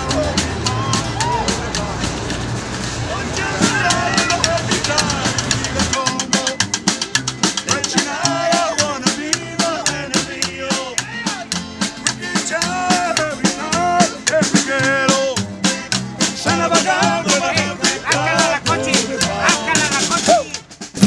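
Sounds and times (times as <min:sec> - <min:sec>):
accordion melody: 0:00.0 - 0:21.0
guitars: 0:00.0 - 0:21.0
upright bass: 0:00.0 - 0:21.0
snare drum quick beat: 0:03.6 - 0:21.0.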